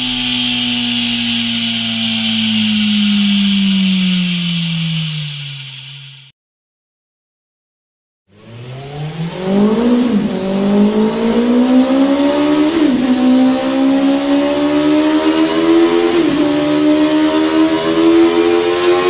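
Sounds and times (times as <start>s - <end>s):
motorcycle engine accelerating: 0.0s - 6.3s, 8.3s - 19.0s.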